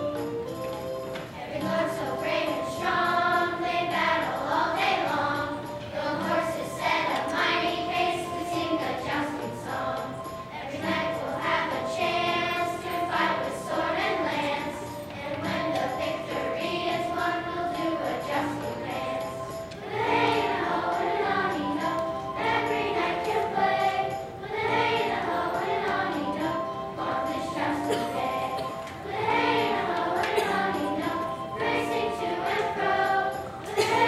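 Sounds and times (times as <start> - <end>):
children's choir singing: 0.0 - 34.0
instrumental accompaniment: 0.0 - 34.0.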